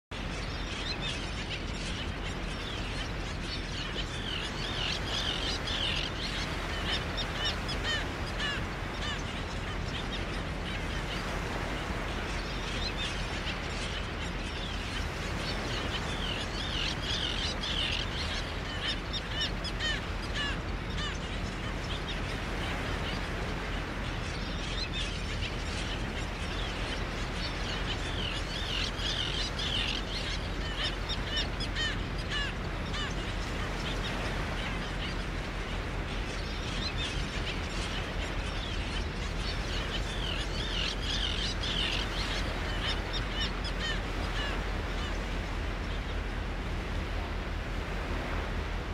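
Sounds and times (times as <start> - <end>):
small birds chirping: 0.2 - 46.4.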